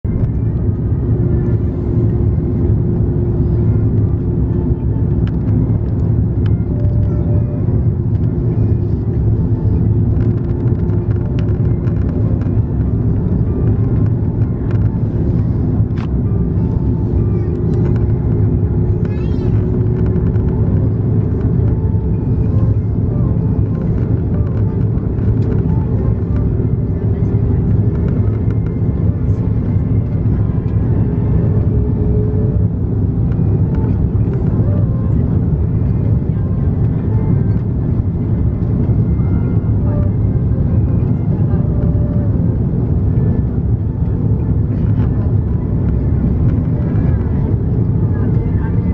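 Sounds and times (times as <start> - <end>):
aircraft cabin engine rumble: 0.0 - 48.9
steady hum: 0.0 - 48.9.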